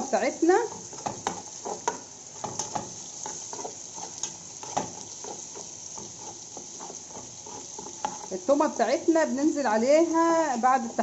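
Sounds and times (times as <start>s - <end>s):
garlic sizzling in a pan: 0.0s - 11.0s.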